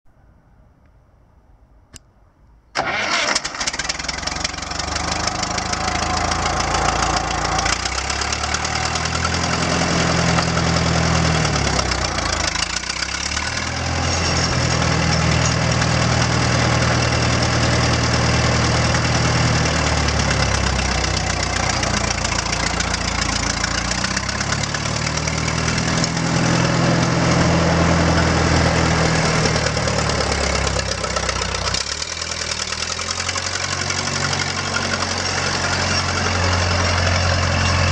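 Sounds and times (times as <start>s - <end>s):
tractor engine running: 2.8s - 37.9s.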